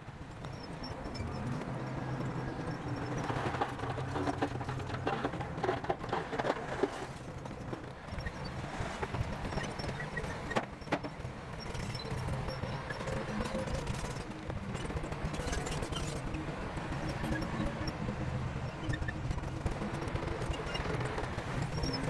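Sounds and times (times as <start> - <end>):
diesel engine running under load: 0.0 - 22.0
rapid clanks and knocks: 0.4 - 22.0.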